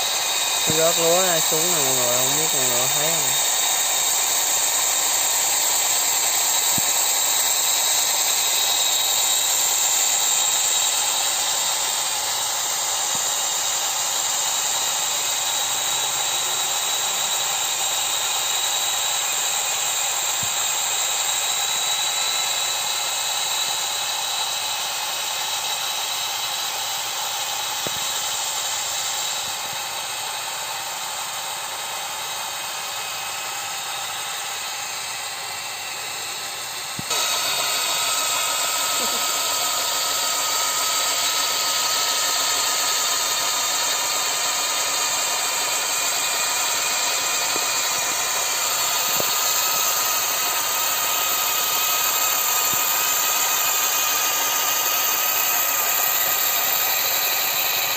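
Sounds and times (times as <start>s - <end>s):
model harvester motors whining: 0.0s - 57.9s.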